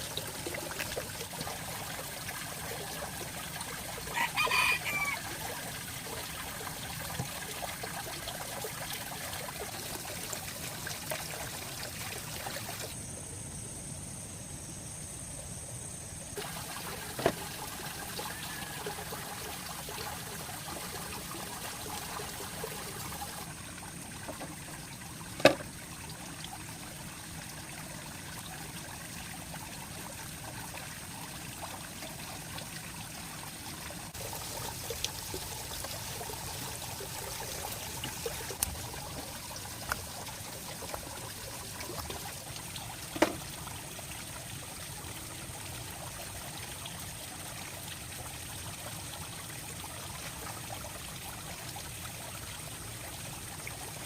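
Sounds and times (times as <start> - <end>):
shallow water trickling: 0.0 - 13.0, 16.4 - 54.0.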